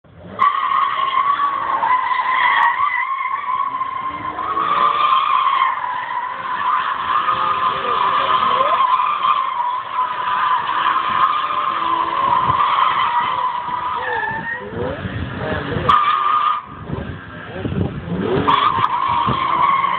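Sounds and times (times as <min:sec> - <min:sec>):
tyres squealing: 0:00.2 - 0:15.1, 0:18.2 - 0:19.9.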